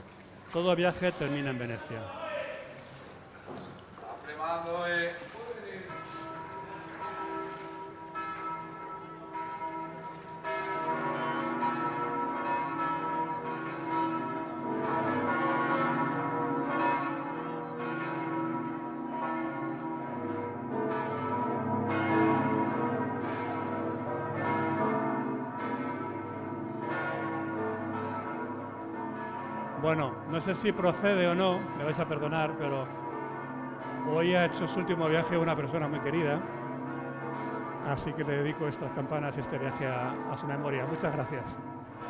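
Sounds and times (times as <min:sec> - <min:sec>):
church bells pealing: 0:00.5 - 0:02.0, 0:04.4 - 0:42.0.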